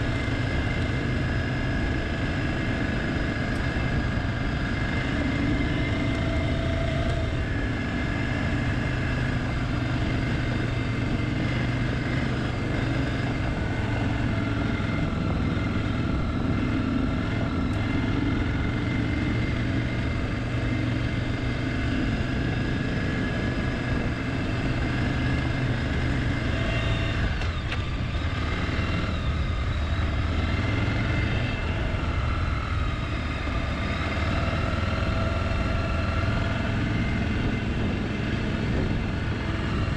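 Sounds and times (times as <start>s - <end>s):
wind noise: 0.0s - 33.8s, 34.5s - 39.9s
motorcycle engine running: 0.0s - 39.9s.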